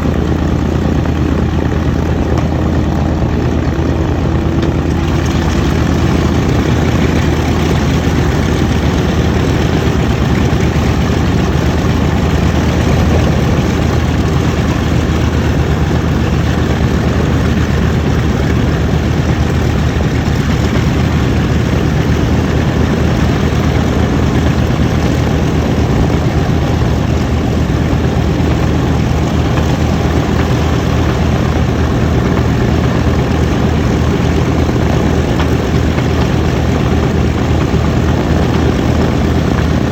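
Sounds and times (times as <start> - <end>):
aircraft radial engines idling: 0.0 - 39.9.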